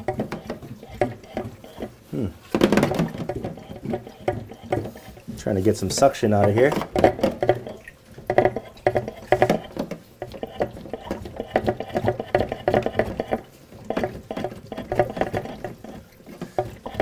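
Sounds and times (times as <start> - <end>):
hand pump siphon strokes: 0.0 - 17.0.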